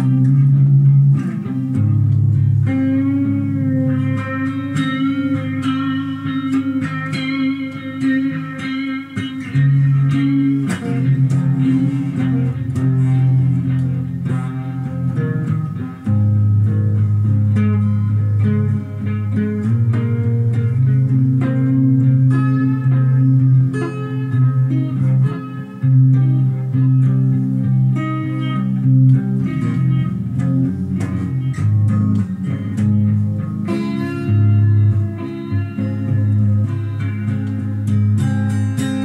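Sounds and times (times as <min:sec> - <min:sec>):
guitar plucked notes: 0:00.0 - 0:39.0.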